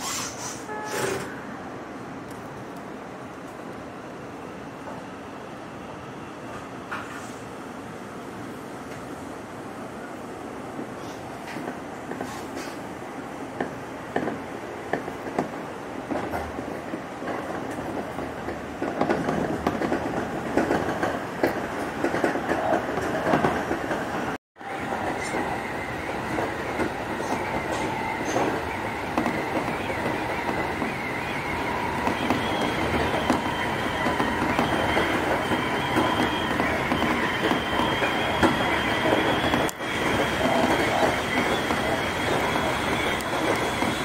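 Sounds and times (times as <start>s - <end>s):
train rumble and wheel noise: 0.0s - 44.0s.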